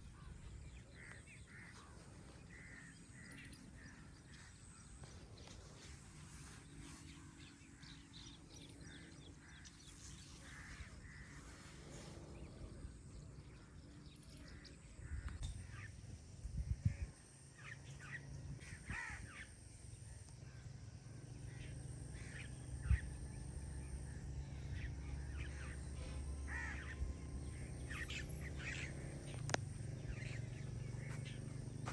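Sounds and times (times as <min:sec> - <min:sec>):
birds calling harshly: 0:00.0 - 0:05.6, 0:06.6 - 0:31.9.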